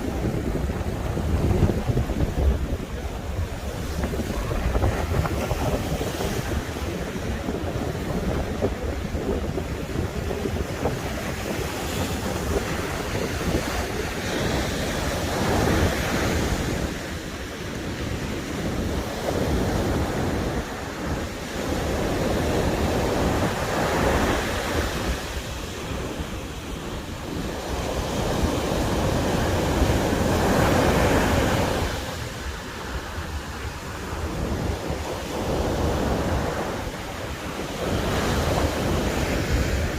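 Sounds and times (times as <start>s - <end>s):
sea waves washing ashore: 0.0s - 39.9s
wind buffeting microphone: 0.0s - 39.9s.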